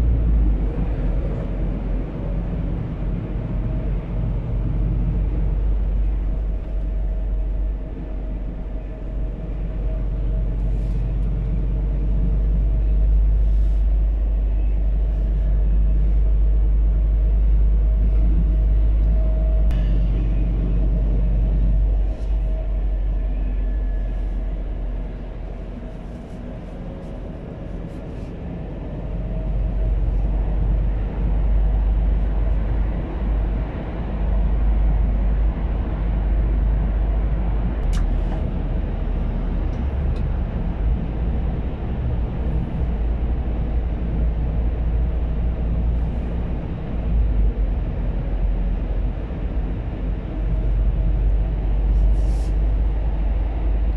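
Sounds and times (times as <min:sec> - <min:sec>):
truck engine and road rumble: 0:00.0 - 0:53.9.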